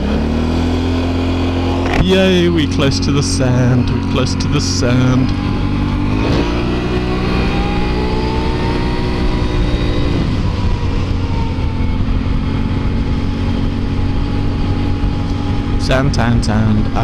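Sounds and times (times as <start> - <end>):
quad engine accelerating: 0.0 - 17.0.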